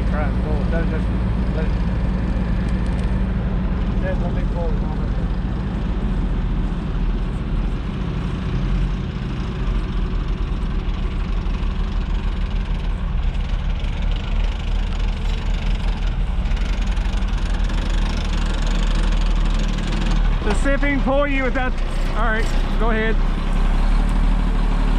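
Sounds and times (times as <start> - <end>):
truck engine running: 0.0 - 24.9.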